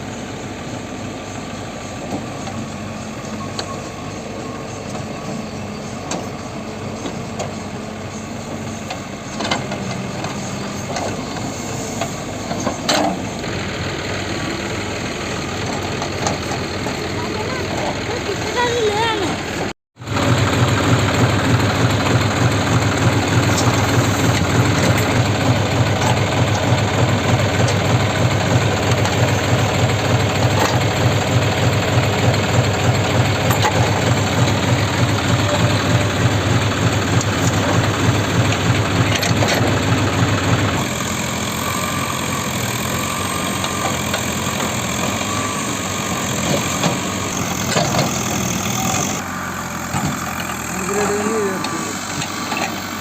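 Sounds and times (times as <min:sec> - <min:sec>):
diesel engine deep drone: 0:00.0 - 0:53.0
quieter engine: 0:00.0 - 0:53.0.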